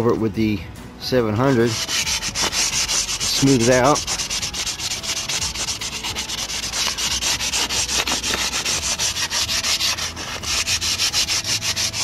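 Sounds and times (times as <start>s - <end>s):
abrasive pad scrubbing metal pipe: 1.4s - 12.0s.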